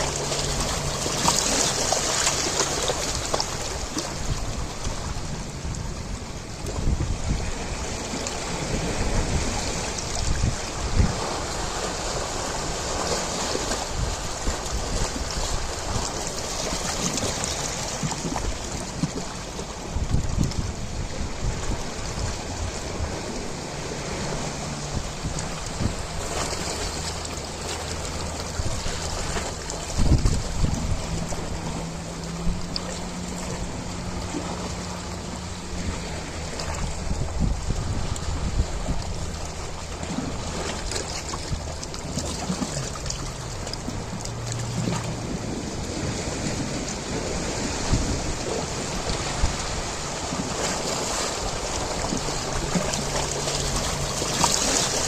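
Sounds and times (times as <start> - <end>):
ocean waves washing: 0.0 - 55.0
wind buffeting microphone: 0.0 - 55.0.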